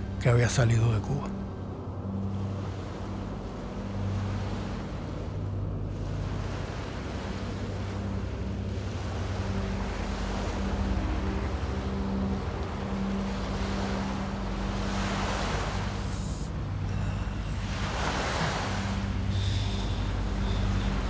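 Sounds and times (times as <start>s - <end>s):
low steady hum: 0.0s - 21.0s
ocean waves: 0.0s - 21.0s
wind: 0.0s - 21.0s.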